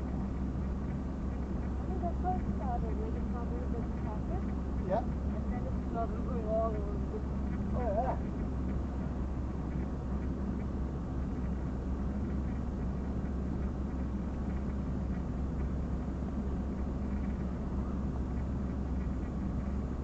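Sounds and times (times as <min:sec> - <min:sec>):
faint constant tone: 0:00.0 - 0:20.0
low mechanical hum: 0:00.0 - 0:20.0.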